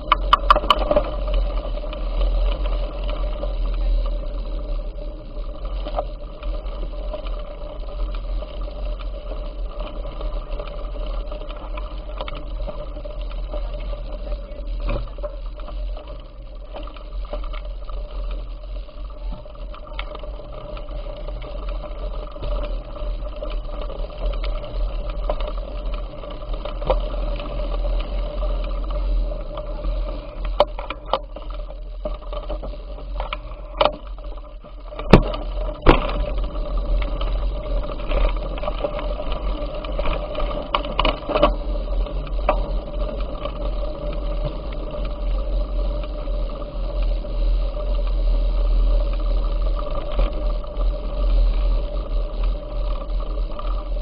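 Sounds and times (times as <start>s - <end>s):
bike hum and rattle: 0.0s - 54.0s.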